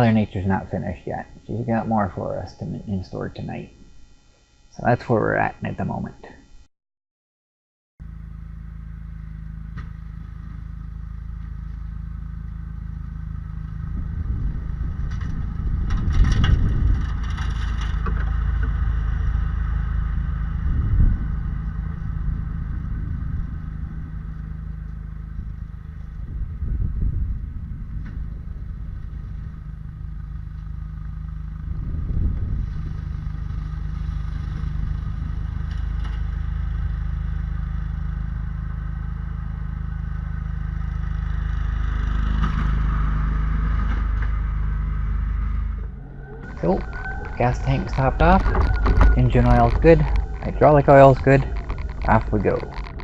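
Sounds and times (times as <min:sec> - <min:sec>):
vehicle motor running: 0:08.0 - 0:53.0.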